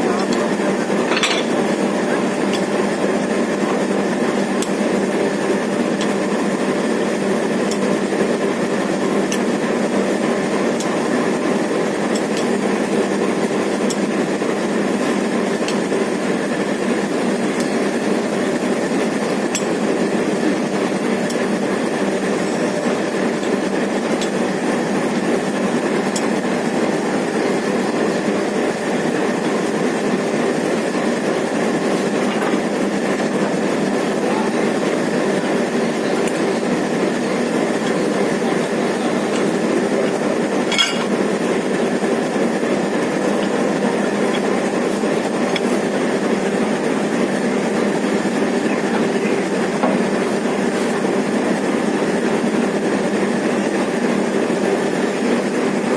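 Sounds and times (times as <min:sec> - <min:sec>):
railway train running: 0:00.0 - 0:55.9.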